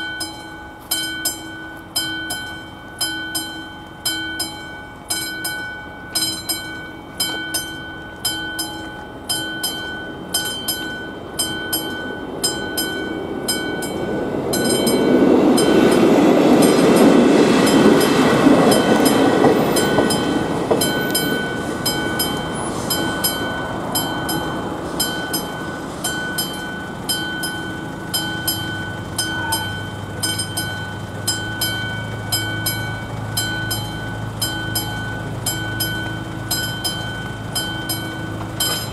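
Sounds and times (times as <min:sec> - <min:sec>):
level-crossing warning bell: 0:00.0 - 0:38.9
train rolling over crossing: 0:00.0 - 0:38.9
van engine hum: 0:00.0 - 0:38.9.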